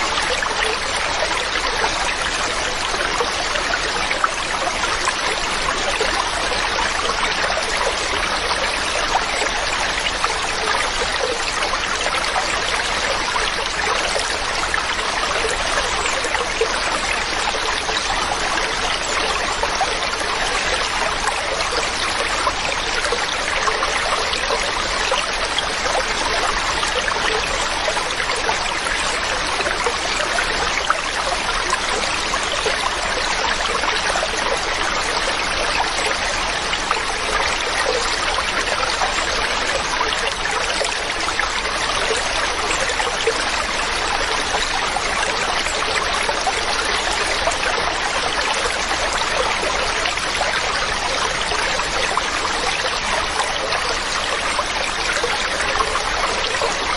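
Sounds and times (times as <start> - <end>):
stream running over rocks: 0.0 - 56.9.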